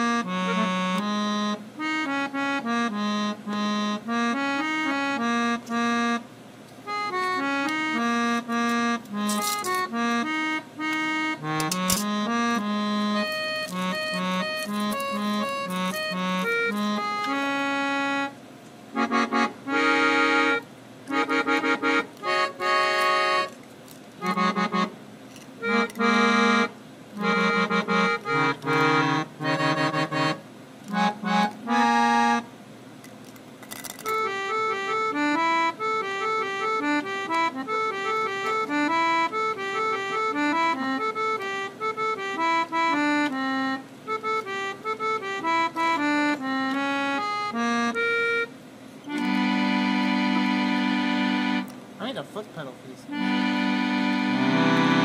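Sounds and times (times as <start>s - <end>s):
background music tune: 0.0s - 6.3s, 6.9s - 18.4s, 19.0s - 23.6s, 24.2s - 25.0s, 25.6s - 32.5s, 33.9s - 51.8s, 53.1s - 55.0s.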